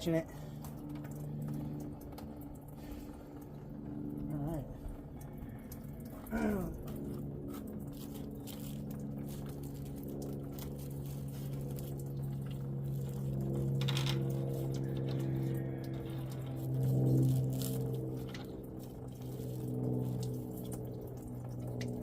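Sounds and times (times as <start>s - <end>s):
coolant pouring into can: 0.0s - 22.0s
steady low hum: 0.0s - 22.0s.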